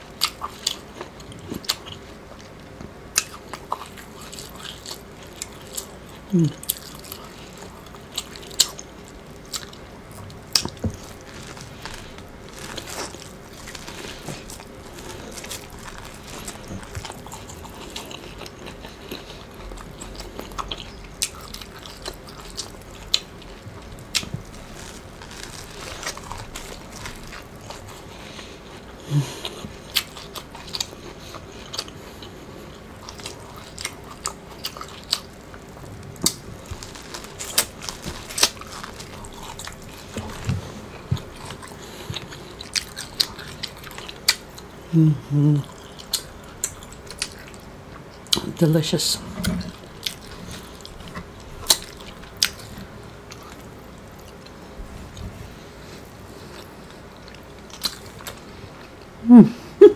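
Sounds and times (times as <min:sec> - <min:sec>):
person biting and chewing corn: 0:00.1 - 0:44.8, 0:45.4 - 0:48.5, 0:49.3 - 0:59.2.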